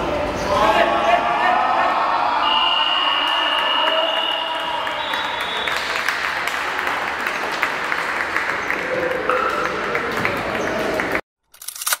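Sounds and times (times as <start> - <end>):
crowd noise and voices: 0.0 - 11.2.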